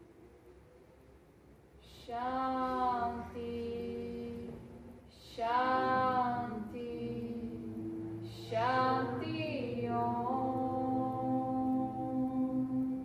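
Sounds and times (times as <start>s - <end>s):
woman chanting: 1.8s - 13.0s.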